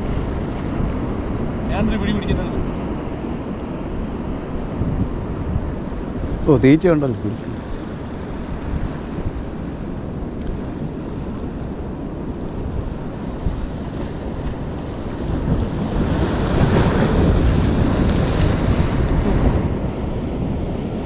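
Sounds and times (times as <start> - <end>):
waves washing against rocks: 0.0 - 21.0
wind buffeting microphone: 0.0 - 21.0.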